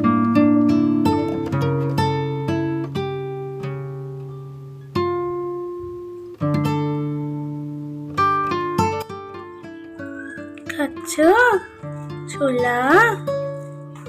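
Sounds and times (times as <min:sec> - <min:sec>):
acoustic guitar plucked notes: 0:00.0 - 0:14.0.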